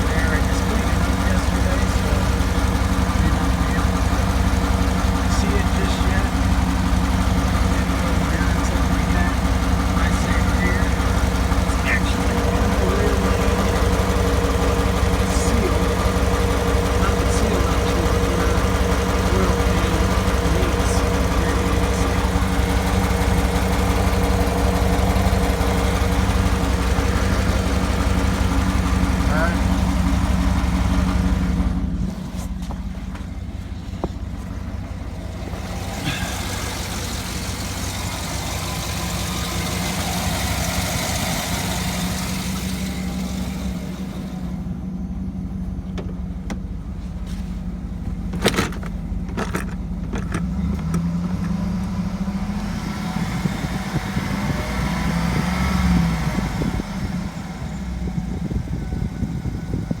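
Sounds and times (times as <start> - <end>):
car engine running: 0.0 - 60.0.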